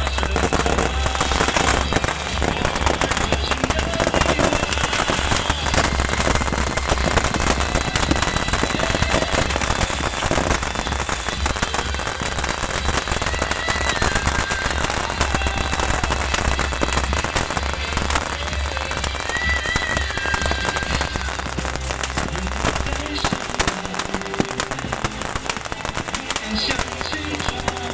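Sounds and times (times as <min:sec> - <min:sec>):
fireworks crackling: 0:00.0 - 0:27.9.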